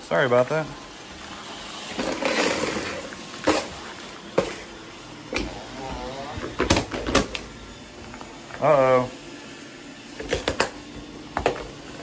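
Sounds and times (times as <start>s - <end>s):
robot vacuums humming: 0.0s - 12.0s.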